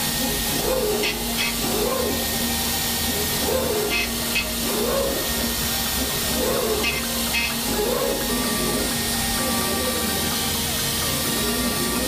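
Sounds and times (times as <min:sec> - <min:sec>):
coolant spray and cutting hiss: 0:00.0 - 0:12.0
milling machine hum: 0:00.0 - 0:12.0.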